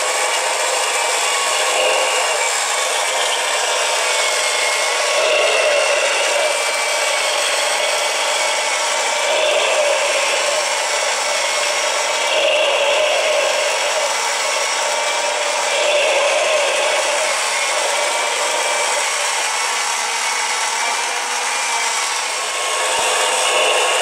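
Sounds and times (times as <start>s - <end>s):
model engine mechanical whirring: 0.0s - 24.0s.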